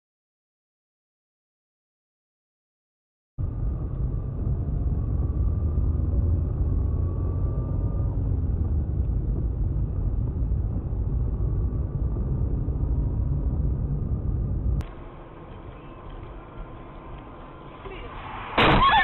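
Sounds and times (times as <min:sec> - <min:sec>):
car engine rumble: 0:03.4 - 0:19.0
faint whine: 0:03.4 - 0:19.0
road noise: 0:03.4 - 0:19.0.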